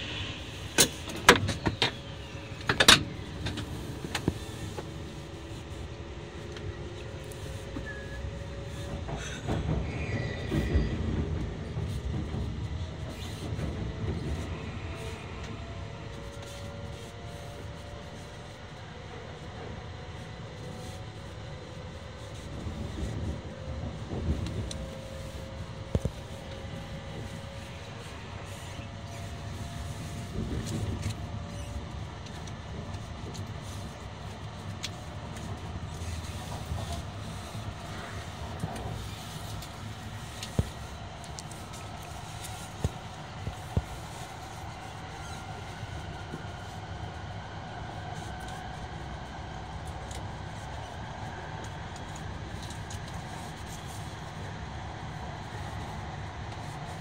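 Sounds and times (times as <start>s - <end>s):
faint whining tones: 0.0s - 57.0s
train rumble inside passenger car: 0.0s - 57.0s.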